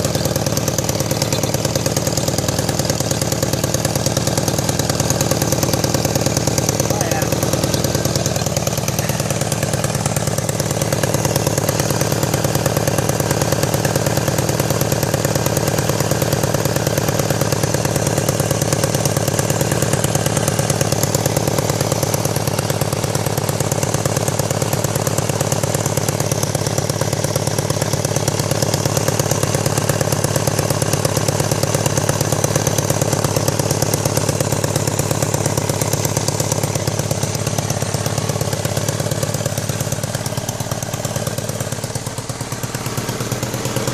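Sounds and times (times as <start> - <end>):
exhaust tube rattling: 0.0 - 43.9
motorcycle engine idling: 0.0 - 43.9
pulsing exhaust leak: 0.0 - 43.9.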